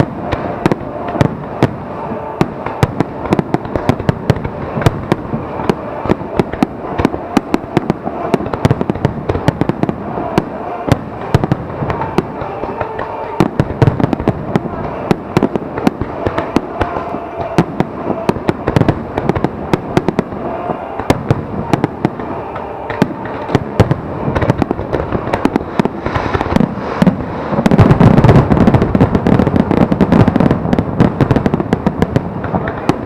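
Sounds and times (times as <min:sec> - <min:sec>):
fireworks booming bursts: 0:00.0 - 0:33.0
fireworks crackling pops: 0:00.0 - 0:33.0.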